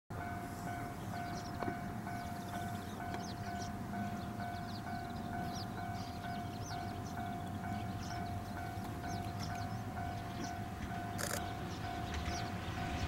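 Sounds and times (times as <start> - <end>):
level-crossing warning bell: 0.1 - 13.0
small birds chirping: 0.8 - 13.0.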